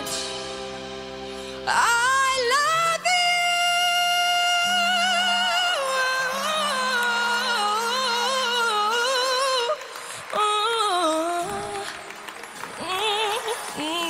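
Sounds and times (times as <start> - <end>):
woman singing slow ballad: 1.2 - 14.0.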